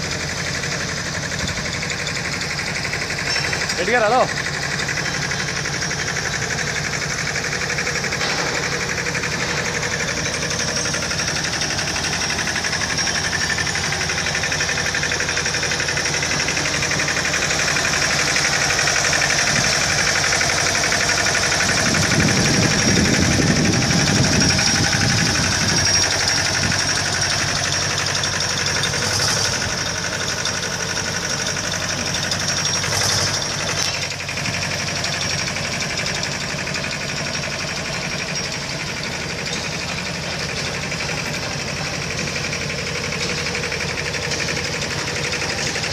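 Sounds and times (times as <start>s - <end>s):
drill rig diesel engine running: 0.0s - 45.9s
metal clanks: 2.9s - 45.9s.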